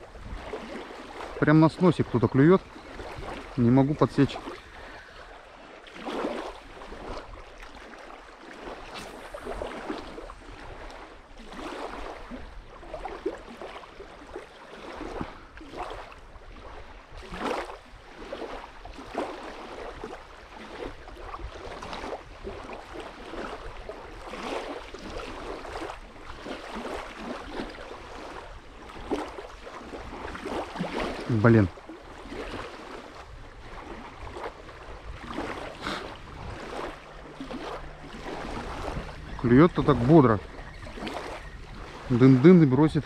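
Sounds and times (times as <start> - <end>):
small waves lapping on sand: 0.0 - 43.0.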